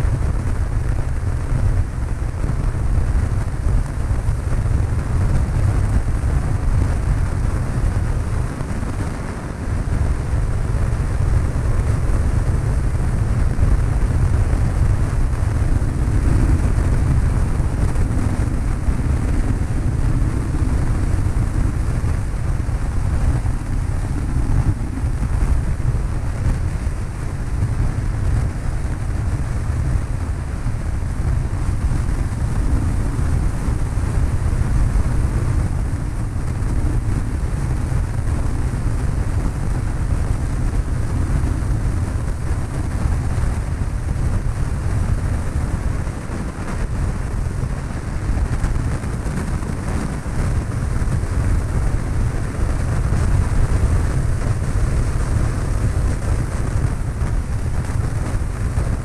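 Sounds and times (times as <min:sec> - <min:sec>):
aircraft engine and propeller droning: 0:00.0 - 0:59.0
rushing air: 0:00.0 - 0:59.0.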